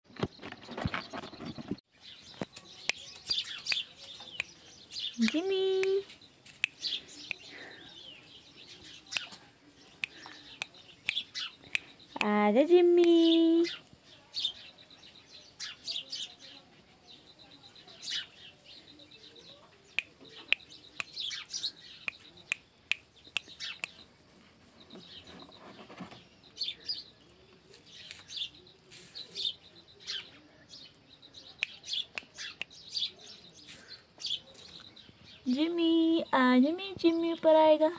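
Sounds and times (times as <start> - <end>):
small birds chirping: 0.1 - 37.9.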